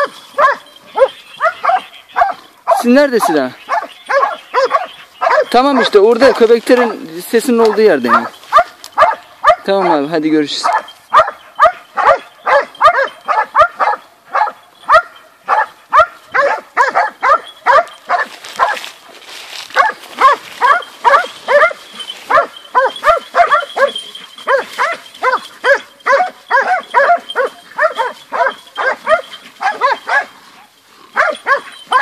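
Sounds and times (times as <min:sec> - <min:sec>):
dogs barking rapidly: 0:00.0 - 0:32.0.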